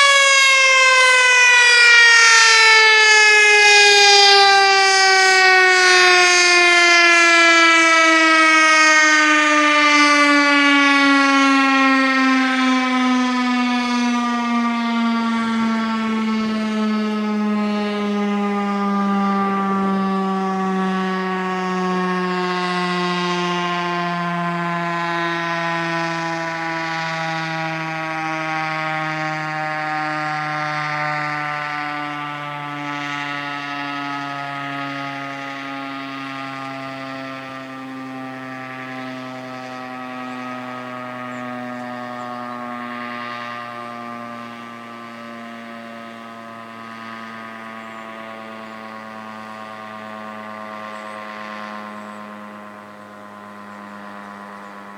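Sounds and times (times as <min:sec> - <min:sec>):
warning siren winding down: 0:00.0 - 0:54.9.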